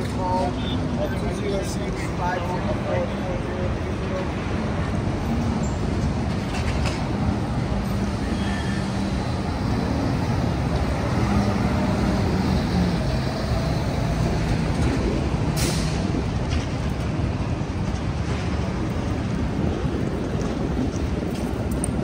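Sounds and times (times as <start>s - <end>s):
buses and trucks running: 0.0s - 22.0s.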